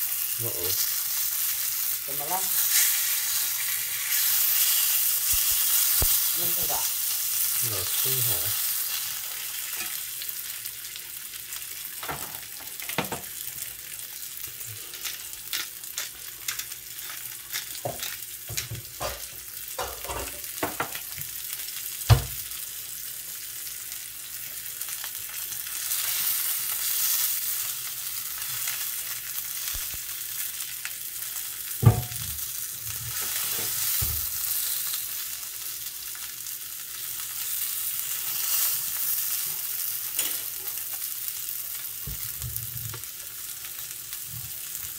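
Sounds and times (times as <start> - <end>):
steak sizzling in oil: 0.0 - 44.9.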